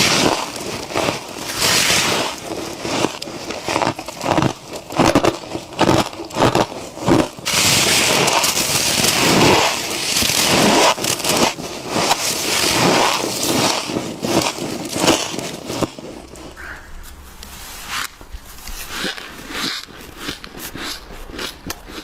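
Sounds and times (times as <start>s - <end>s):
chewing crunchy frost: 0.0s - 22.0s.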